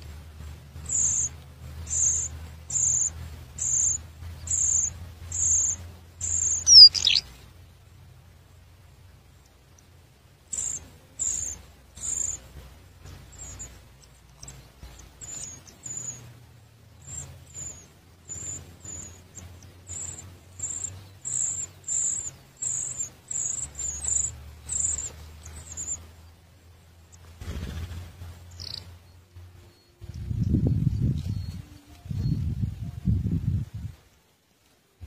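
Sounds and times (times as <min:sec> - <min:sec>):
small bird peeping: 0:00.8 - 0:07.5, 0:10.5 - 0:33.3.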